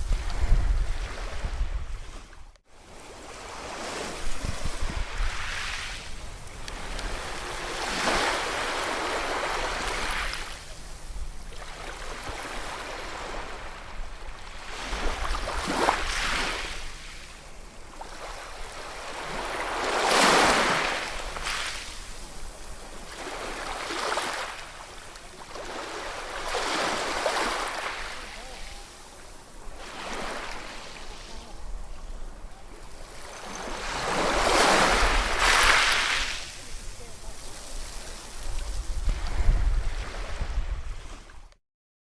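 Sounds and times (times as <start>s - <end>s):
ocean waves breaking: 0.0s - 41.4s.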